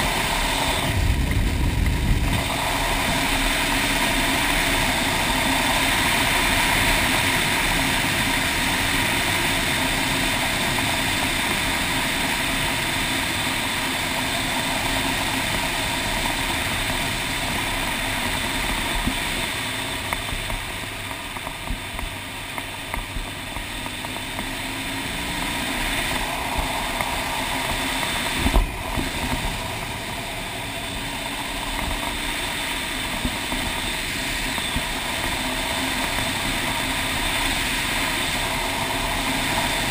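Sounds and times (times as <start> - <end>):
wind rush: 0.0 - 19.6, 25.7 - 39.9
motorcycle engine running: 0.0 - 39.9.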